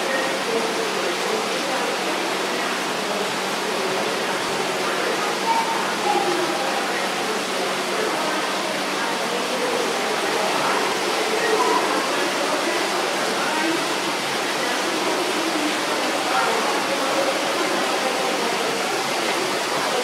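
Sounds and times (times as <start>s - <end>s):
faint indistinct voices: 0.0s - 20.0s.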